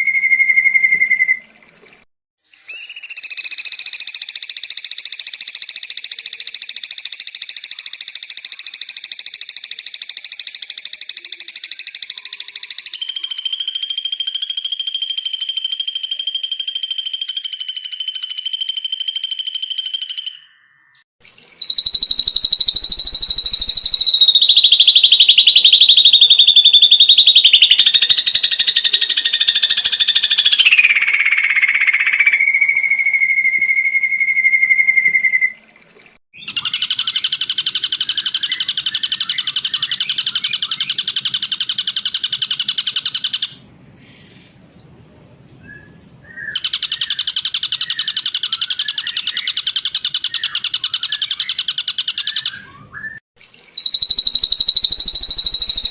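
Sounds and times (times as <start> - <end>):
bird singing rapid trills: 0.0 - 1.4, 2.5 - 35.6, 36.4 - 43.6, 46.3 - 55.9.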